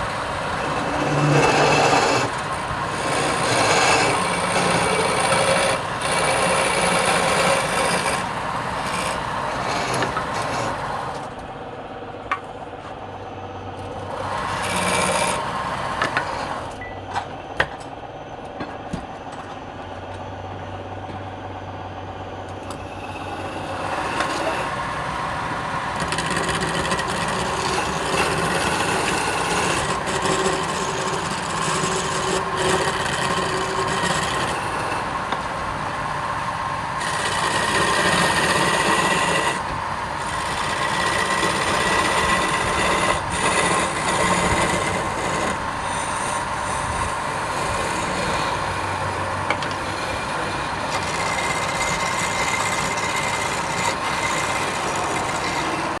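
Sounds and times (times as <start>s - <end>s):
tool scraping spinning wood: 0.0s - 11.5s, 12.3s - 16.8s, 21.1s - 56.0s
lathe hum: 0.0s - 56.0s.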